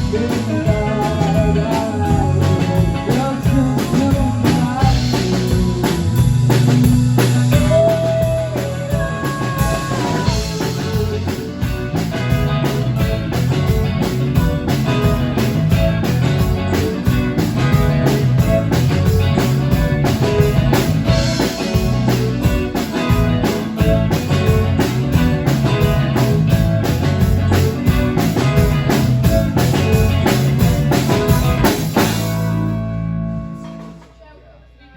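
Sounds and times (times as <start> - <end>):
rock band playing: 0.0 - 34.4.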